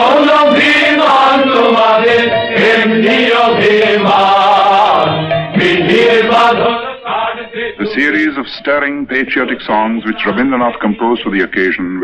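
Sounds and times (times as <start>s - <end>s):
group of voices singing: 0.0s - 11.9s.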